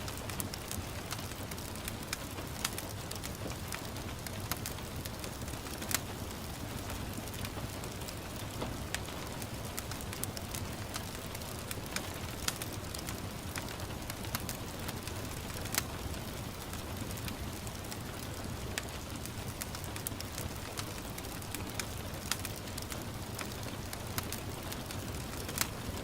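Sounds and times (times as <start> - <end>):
gentle rain hiss: 0.0 - 26.0
wood fire crackling: 0.0 - 26.0.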